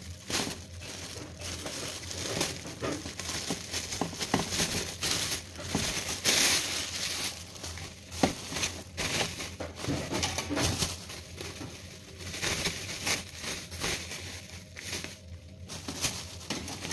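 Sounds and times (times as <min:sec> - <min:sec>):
plastic bags crinkling: 0:00.0 - 0:16.9.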